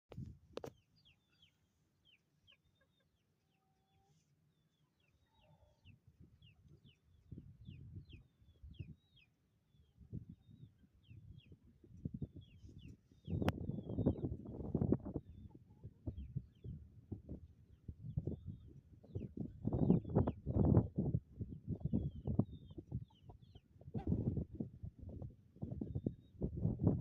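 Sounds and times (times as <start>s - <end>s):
small birds chirping: 0.6s - 24.0s, 25.6s - 26.5s.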